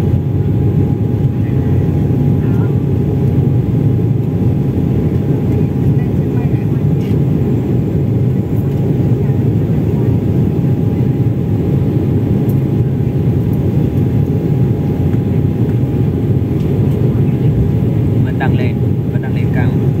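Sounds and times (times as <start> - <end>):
jet engine and airflow rush: 0.0 - 20.0.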